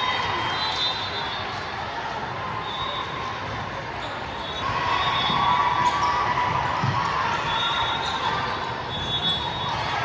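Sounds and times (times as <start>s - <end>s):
crowd and player voices: 0.0s - 10.0s.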